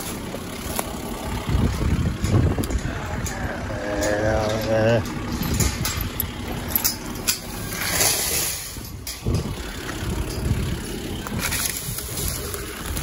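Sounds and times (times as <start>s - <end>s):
low rumble: 0.0s - 13.0s
chain clinking and rattling: 1.6s - 13.0s.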